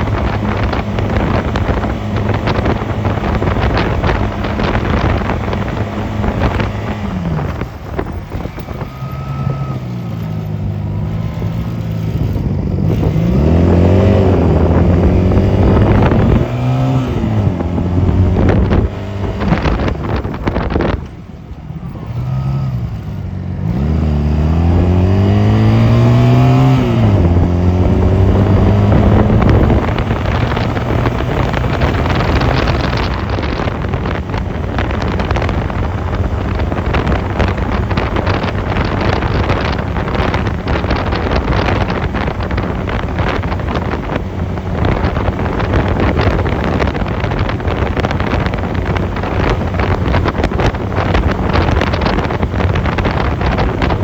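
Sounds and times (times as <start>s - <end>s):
motorcycle engine accelerating: 0.0s - 54.0s
wind buffeting microphone: 0.0s - 54.0s.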